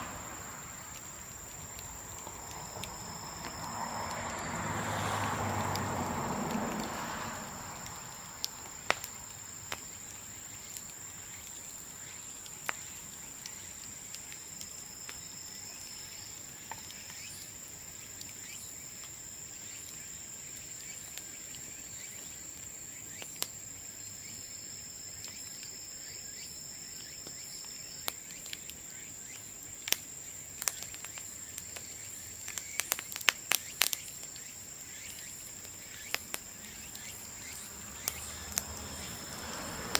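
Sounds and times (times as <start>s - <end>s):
bonfire crackling and popping: 0.0s - 39.9s
insect chirr: 0.0s - 39.9s.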